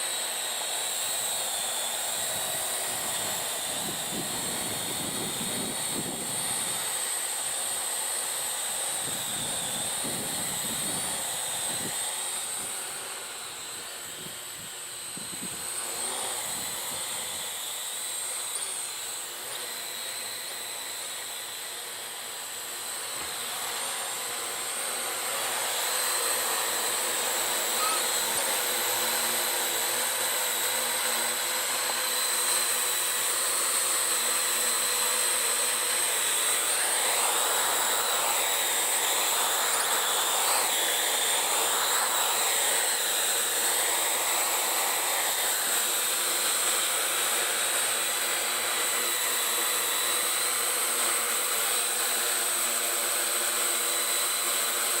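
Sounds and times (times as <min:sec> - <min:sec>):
quadcopter rotors whirring: 0:00.0 - 0:55.0.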